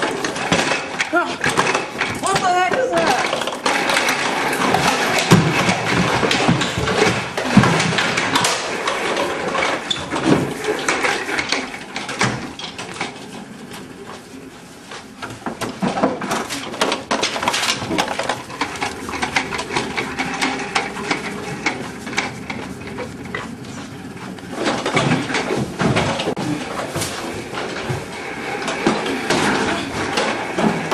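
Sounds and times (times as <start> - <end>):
office chair rolling and rattling: 0.0 - 30.9.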